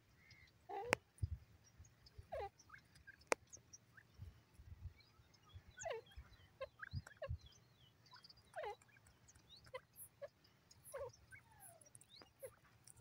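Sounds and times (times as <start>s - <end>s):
faint high chirps: 0.1s - 13.0s.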